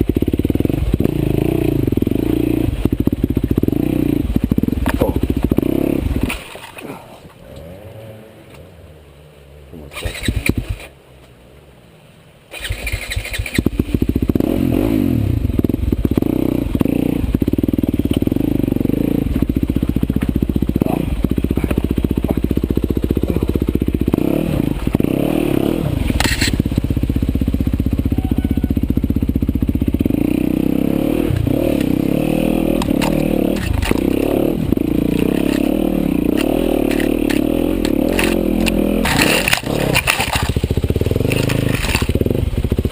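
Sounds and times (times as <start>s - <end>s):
motorcycle engine running: 0.0s - 7.8s, 12.5s - 42.9s.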